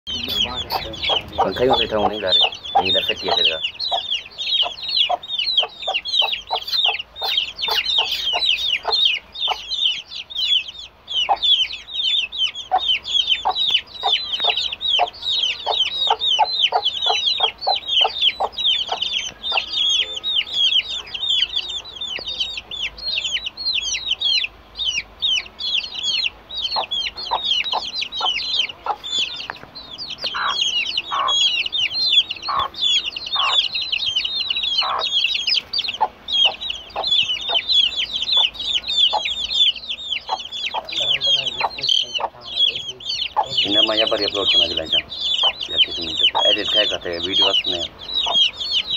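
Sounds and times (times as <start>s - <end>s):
chicks peeping: 0.1s - 48.9s
hen clucking: 0.1s - 48.9s.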